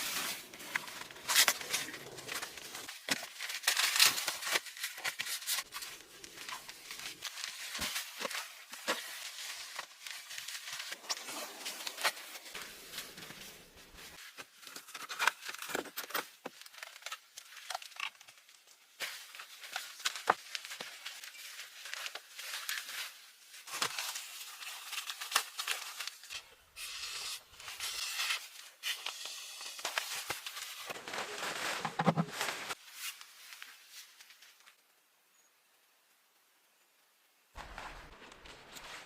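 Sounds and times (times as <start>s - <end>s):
rustling and crinkling: 0.0s - 34.9s, 37.6s - 39.0s.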